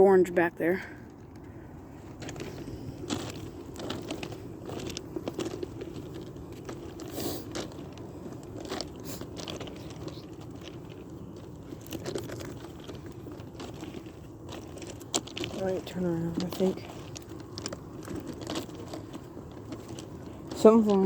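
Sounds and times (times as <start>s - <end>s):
footsteps crunching on gravel: 1.1s - 21.0s.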